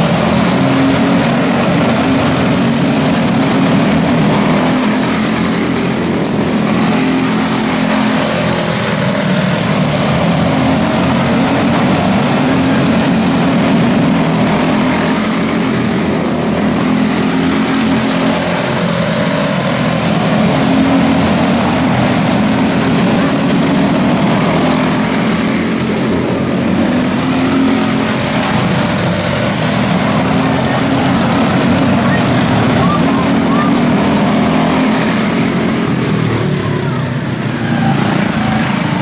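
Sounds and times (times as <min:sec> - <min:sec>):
race car engines droning: 0:00.0 - 0:39.0.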